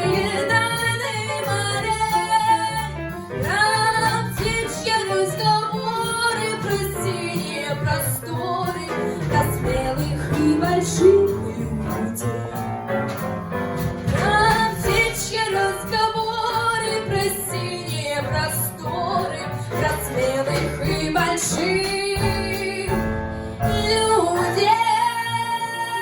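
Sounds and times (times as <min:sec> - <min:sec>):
woman singing: 0:00.0 - 0:12.7, 0:14.1 - 0:26.0
instrumental accompaniment: 0:00.0 - 0:26.0.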